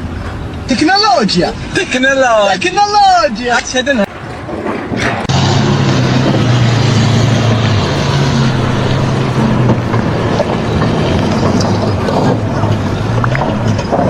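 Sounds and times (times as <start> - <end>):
dense mechanical noise: 0.0 - 14.0
low engine drone: 0.0 - 14.0.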